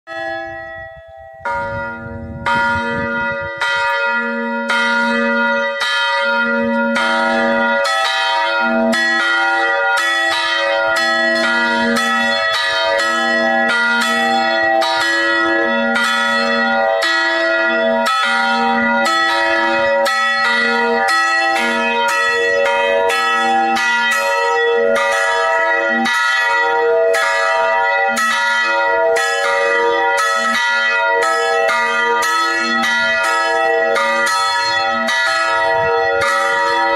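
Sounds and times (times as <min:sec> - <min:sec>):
church bells ringing: 0:00.1 - 0:36.9.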